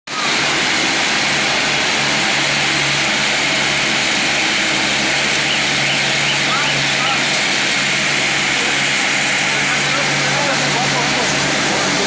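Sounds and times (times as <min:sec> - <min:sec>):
baling machine running: 0:00.1 - 0:12.0
constant low hum: 0:00.2 - 0:12.0.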